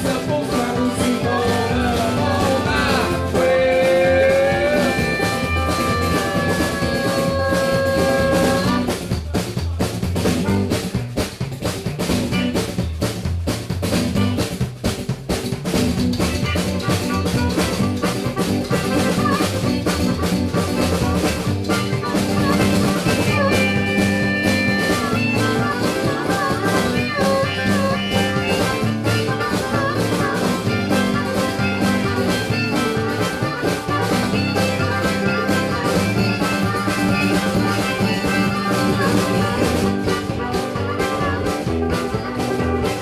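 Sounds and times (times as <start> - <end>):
lead melody: 0.0 - 8.9, 16.3 - 43.0
drum kit beat: 0.0 - 43.0
live band playing: 0.0 - 43.0.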